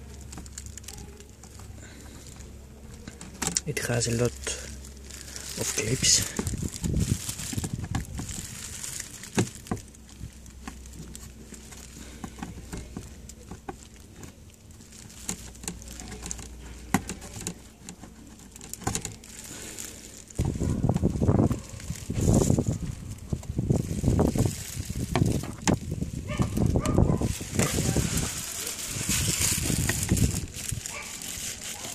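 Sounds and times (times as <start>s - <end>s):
rustling: 0.0s - 31.9s.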